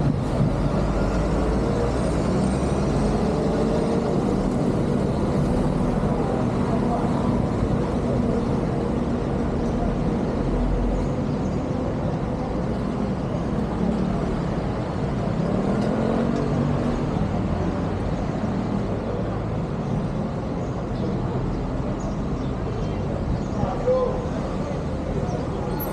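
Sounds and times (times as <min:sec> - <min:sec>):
road noise: 0:00.0 - 0:25.9.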